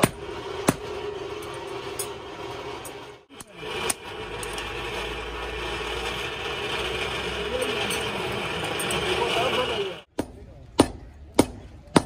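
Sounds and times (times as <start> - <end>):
forge blower whirring: 0.0 - 10.1.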